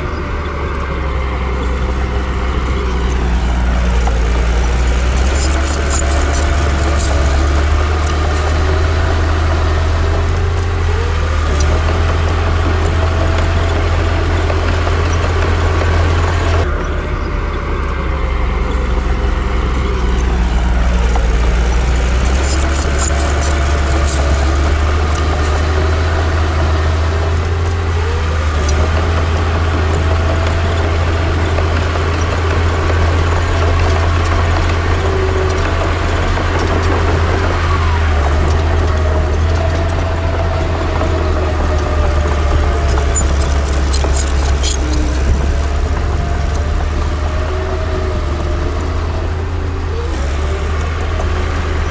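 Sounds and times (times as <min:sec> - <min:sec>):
bulldozer diesel engine working: 0:00.0 - 0:51.9
metallic track clanks: 0:00.0 - 0:51.9.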